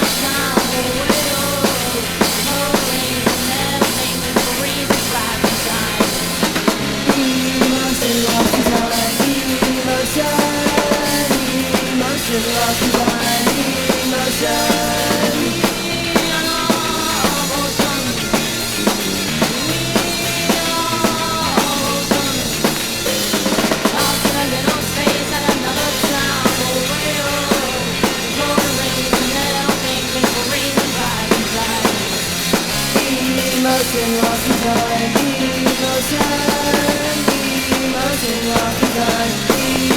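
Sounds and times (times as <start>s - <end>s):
drum kit beat: 0.0s - 39.9s
garage rock band playing: 0.0s - 39.9s.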